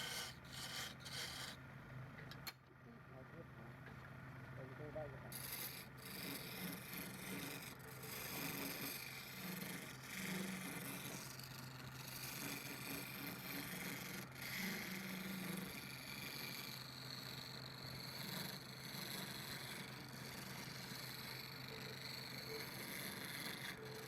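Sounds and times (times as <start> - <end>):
tool scraping spinning wood: 0.0 - 1.6, 5.3 - 24.0
wood lathe motor hum: 0.0 - 1.6, 5.4 - 24.0.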